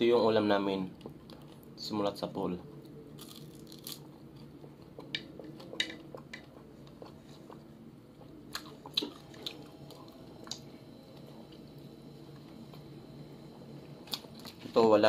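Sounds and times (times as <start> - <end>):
chewing with crackles: 0.9 - 1.8, 2.6 - 12.9, 13.8 - 14.8.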